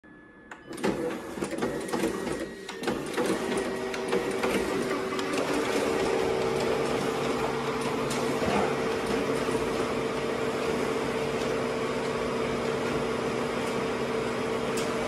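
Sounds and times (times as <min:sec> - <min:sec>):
copier whirring and humming: 0:00.1 - 0:15.0
paper feed clicks and clatters: 0:00.8 - 0:13.9.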